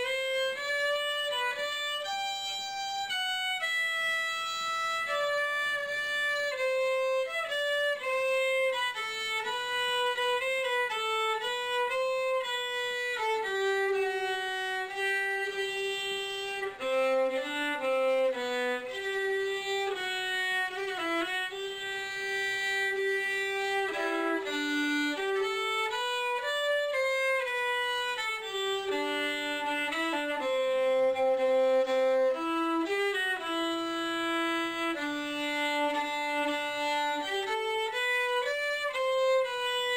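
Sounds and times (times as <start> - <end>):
solo fiddle slow melody: 0.0 - 39.9.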